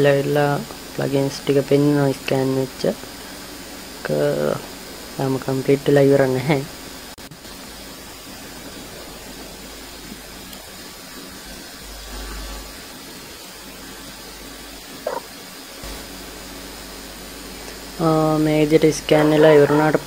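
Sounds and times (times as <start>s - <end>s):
room hiss and hum: 0.0s - 20.0s.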